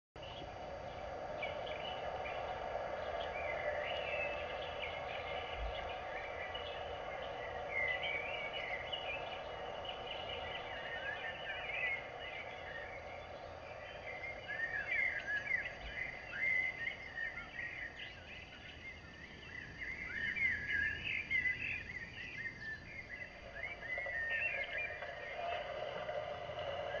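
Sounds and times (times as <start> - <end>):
birds chirping: 0.2 - 27.0
outdoor ambient noise: 0.2 - 27.0.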